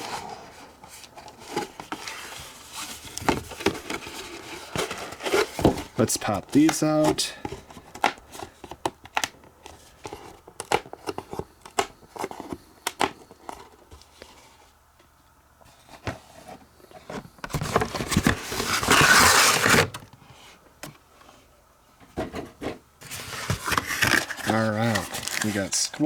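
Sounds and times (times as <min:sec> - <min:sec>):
cardboard crackling and rustling: 0:00.0 - 0:14.8, 0:15.6 - 0:20.6, 0:22.2 - 0:26.0.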